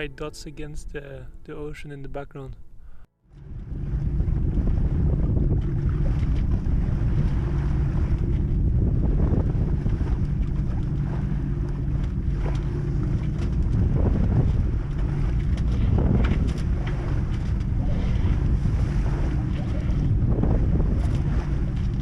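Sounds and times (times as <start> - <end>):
steady low hum: 2.5 - 22.0
wind buffeting microphone: 3.3 - 22.0.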